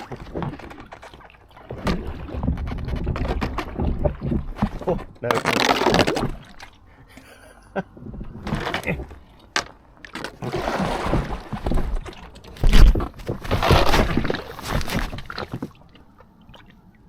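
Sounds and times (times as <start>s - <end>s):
paddle splashing water: 0.0s - 7.0s, 8.0s - 17.0s.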